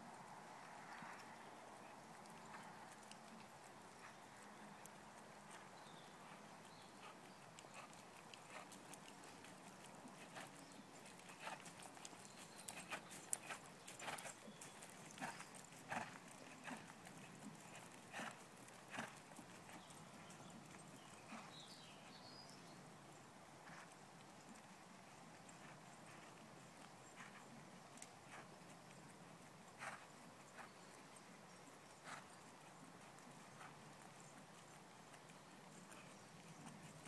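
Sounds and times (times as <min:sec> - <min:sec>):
horse hoofbeats: 0:02.1 - 0:21.9, 0:24.6 - 0:37.0.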